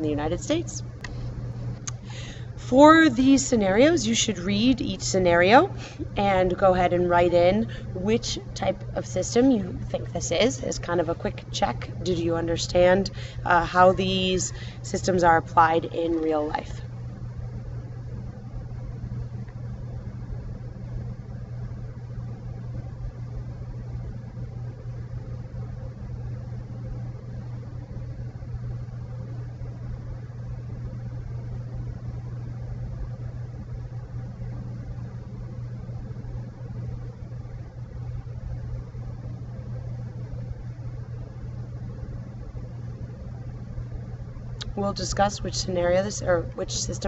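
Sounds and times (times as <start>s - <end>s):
low hum with faint hiss: 0.0s - 47.0s.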